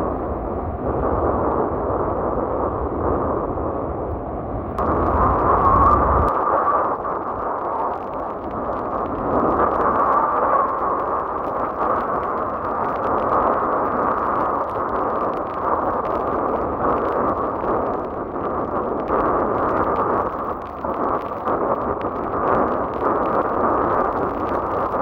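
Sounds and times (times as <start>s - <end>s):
strong wind: 0.0s - 25.0s.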